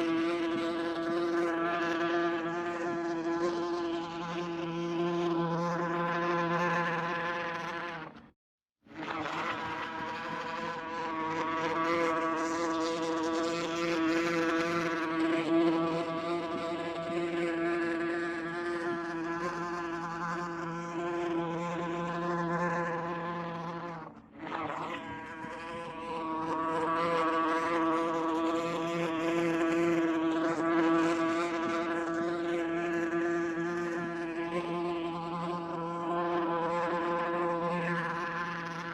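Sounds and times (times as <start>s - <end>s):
wasp buzzing in flight: 0.0s - 8.2s, 9.0s - 38.9s.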